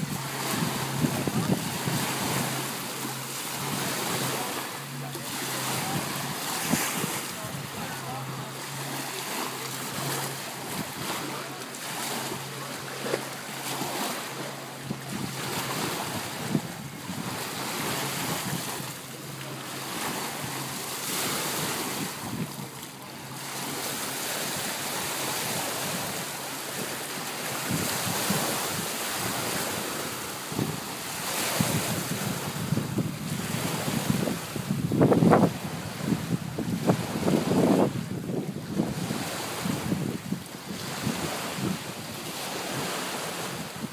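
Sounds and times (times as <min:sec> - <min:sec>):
wind on microphone: 0:00.0 - 0:04.8, 0:05.5 - 0:09.2, 0:14.8 - 0:19.0, 0:20.3 - 0:22.8, 0:23.7 - 0:43.9
waves lapping on shore: 0:00.0 - 0:43.9.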